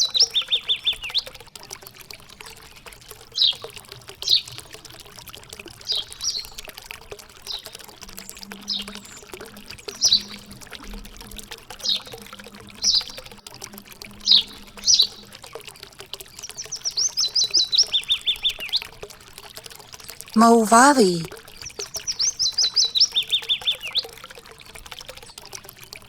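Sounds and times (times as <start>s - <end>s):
water trickling and pouring: 0.0s - 20.4s, 21.3s - 26.0s.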